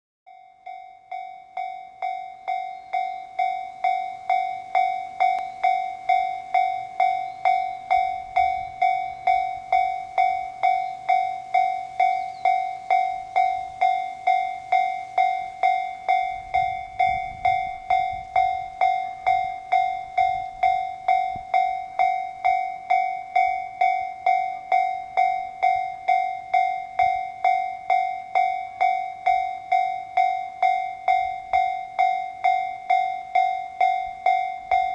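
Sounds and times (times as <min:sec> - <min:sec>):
level crossing warning bell: 0:00.3 - 0:34.9.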